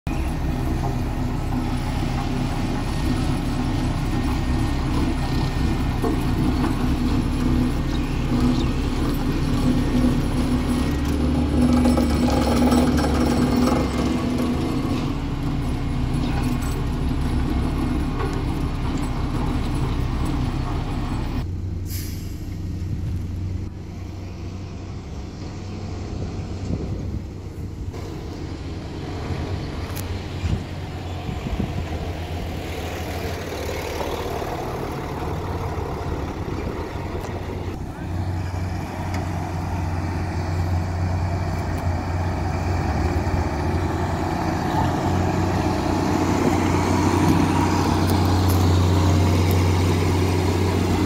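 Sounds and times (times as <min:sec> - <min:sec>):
diesel engine running: 0:00.1 - 0:51.0.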